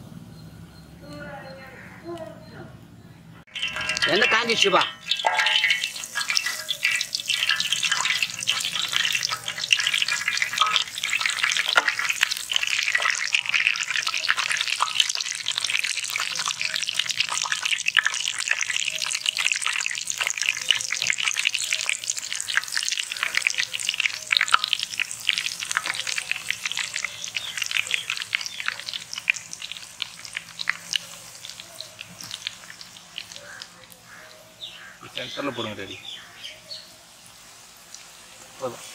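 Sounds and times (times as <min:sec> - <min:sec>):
food deep-frying in oil: 0:03.5 - 0:38.9.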